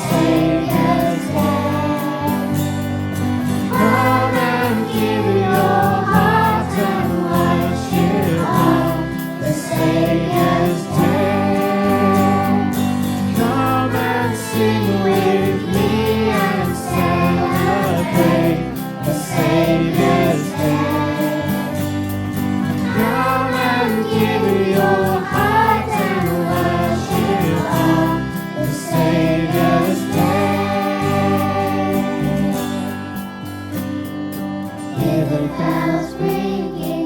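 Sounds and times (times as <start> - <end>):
choir singing with instrumental backing: 0.0 - 37.0.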